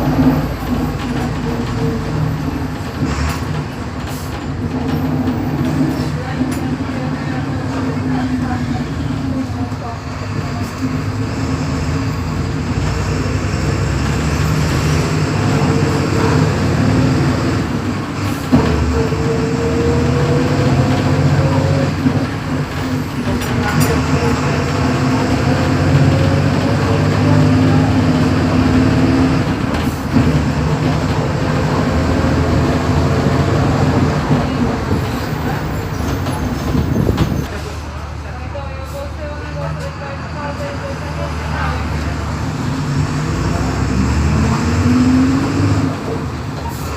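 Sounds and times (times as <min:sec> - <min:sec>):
bus diesel engine under load: 0:00.0 - 0:46.9.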